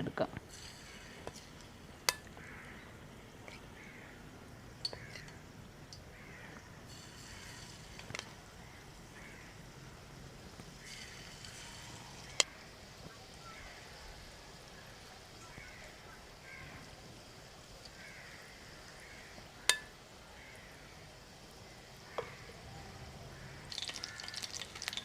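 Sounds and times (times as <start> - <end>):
chicken sizzling in hot oil: 0.4 - 3.1, 4.7 - 25.0.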